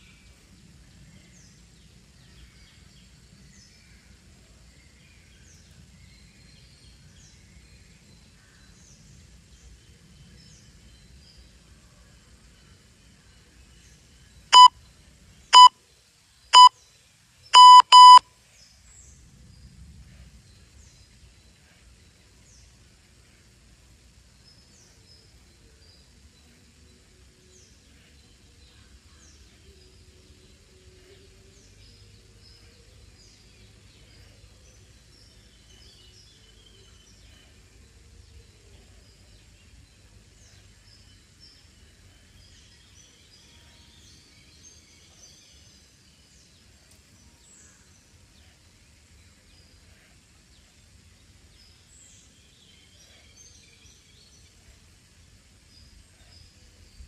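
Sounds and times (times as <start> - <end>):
low steady background rumble: 0.0 - 57.0.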